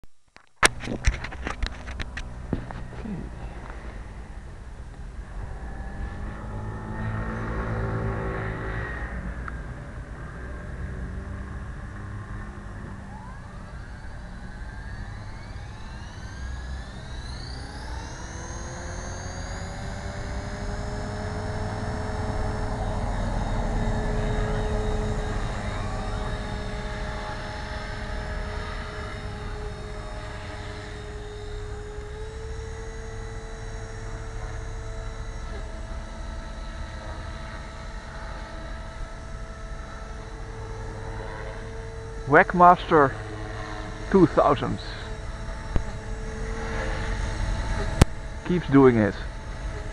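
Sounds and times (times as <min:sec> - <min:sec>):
rc helicopter motor and rotors whine: 0:00.6 - 0:49.9.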